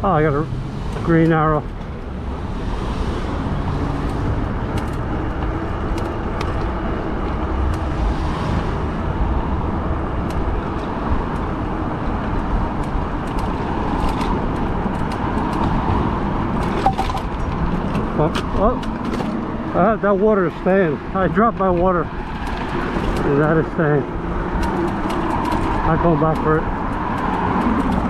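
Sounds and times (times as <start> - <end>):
road noise: 0.0 - 28.0.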